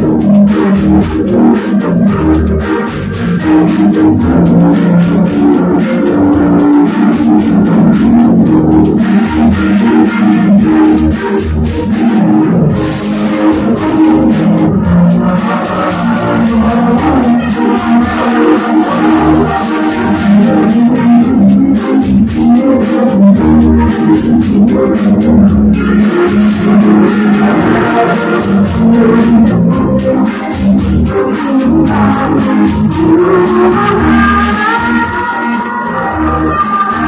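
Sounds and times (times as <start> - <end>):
guitar music: 0.0 - 37.0
low bass notes: 0.0 - 37.0.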